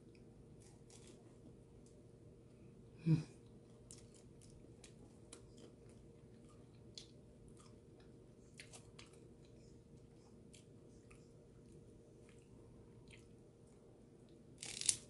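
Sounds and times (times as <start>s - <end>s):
faint crunchy chewing: 0.0s - 2.0s, 3.4s - 15.0s.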